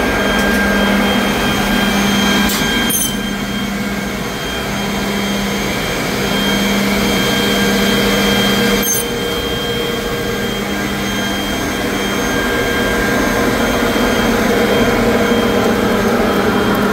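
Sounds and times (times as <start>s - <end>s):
machine motor hum and whine: 0.0s - 16.9s.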